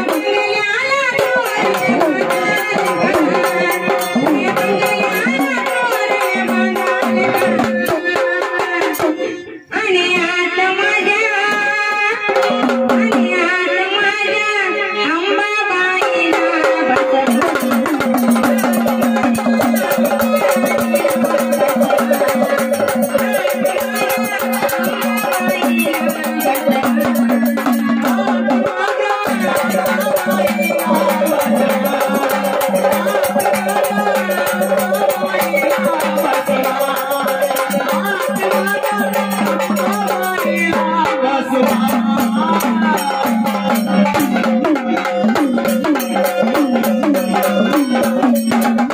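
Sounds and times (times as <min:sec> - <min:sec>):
drums and rattling percussion: 0:00.0 - 0:09.5, 0:11.4 - 0:14.3, 0:16.0 - 0:48.9.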